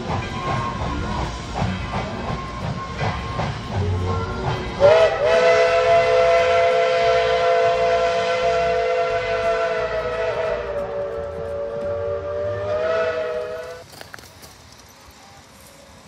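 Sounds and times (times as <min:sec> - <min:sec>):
steam locomotive chime whistle: 0:00.0 - 0:13.9.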